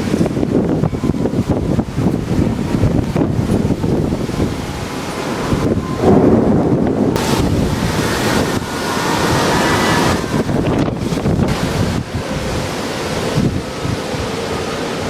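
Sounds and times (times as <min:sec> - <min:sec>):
rain: 0:00.0 - 0:15.0
storm wind gusting: 0:00.0 - 0:15.0
wind buffeting microphone: 0:00.0 - 0:15.0.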